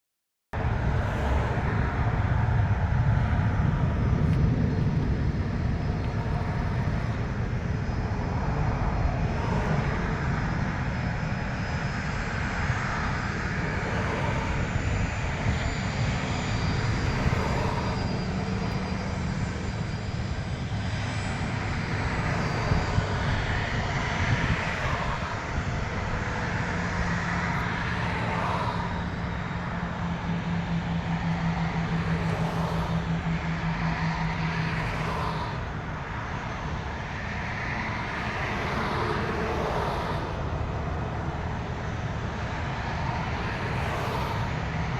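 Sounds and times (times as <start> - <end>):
jet engines rumbling in cabin: 0.6 - 44.9.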